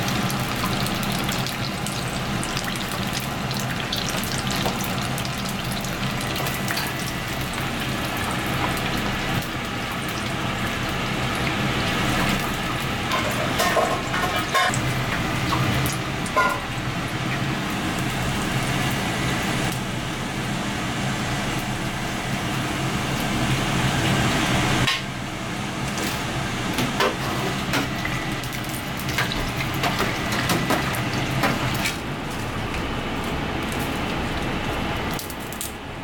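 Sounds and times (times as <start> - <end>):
oil sizzling in deep fryer: 0.0 - 36.0.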